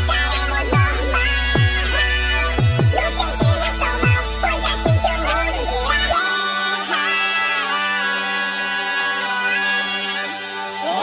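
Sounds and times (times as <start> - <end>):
high-pitched rap vocal: 0.0 - 11.0.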